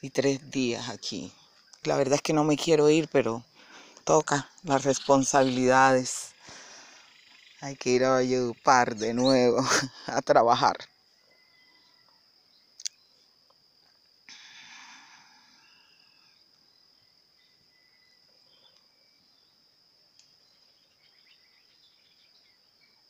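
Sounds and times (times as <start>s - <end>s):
high-pitched insect drone: 0.3s - 23.0s.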